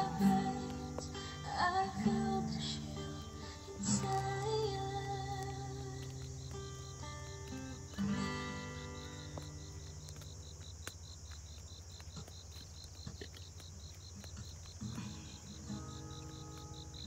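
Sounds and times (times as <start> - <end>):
insects hissing: 0.0 - 17.0
pulsing insect chirp: 0.0 - 17.0.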